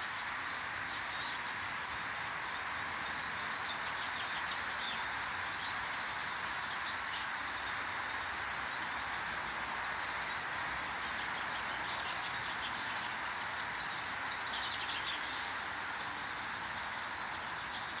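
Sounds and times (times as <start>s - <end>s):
small birds chirping: 0.0s - 18.0s
steady background hiss: 0.0s - 18.0s.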